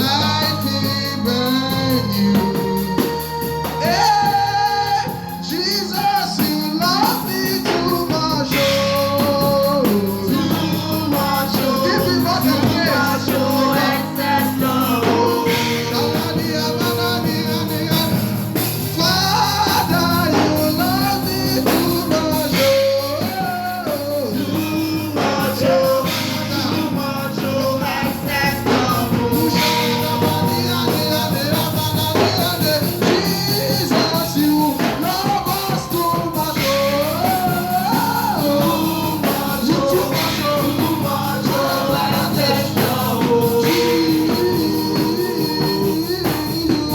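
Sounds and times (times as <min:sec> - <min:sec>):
gospel song with band: 0:00.0 - 0:46.9.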